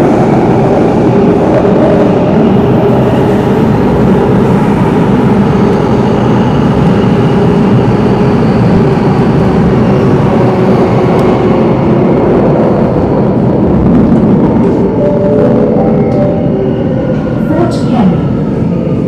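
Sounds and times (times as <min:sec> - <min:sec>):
train rumbling in tunnel: 0:00.0 - 0:19.0.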